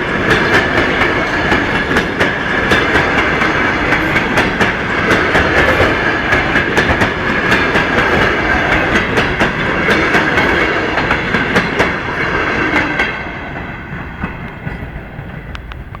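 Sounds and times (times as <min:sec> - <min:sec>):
high ringing of rails: 0:00.0 - 0:16.0
train wheels clicking over rail joints: 0:00.0 - 0:16.0.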